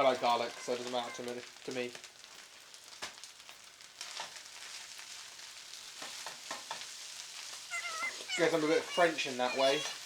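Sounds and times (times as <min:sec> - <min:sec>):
rice sizzling in a frying pan: 0:00.0 - 0:10.0.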